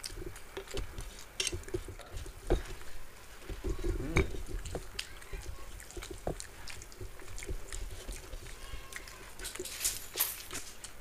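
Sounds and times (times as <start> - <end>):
fingers squishing food on plates: 0.0 - 11.0
wet chewing: 0.0 - 11.0.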